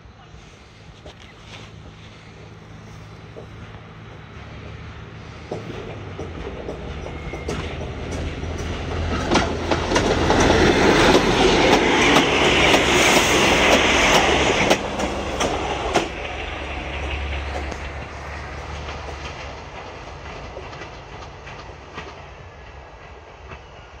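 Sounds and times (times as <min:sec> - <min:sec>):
diesel engines humming: 0:00.0 - 0:20.4
train wheels clacking on rails: 0:01.0 - 0:24.0.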